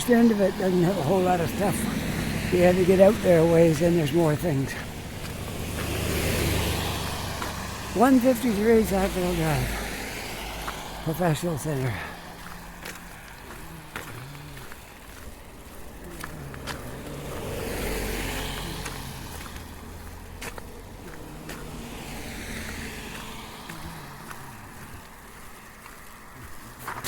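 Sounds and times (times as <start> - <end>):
footstep clicks: 0.0 - 9.2, 10.5 - 21.8, 22.6 - 27.0
road traffic passing: 0.0 - 27.0.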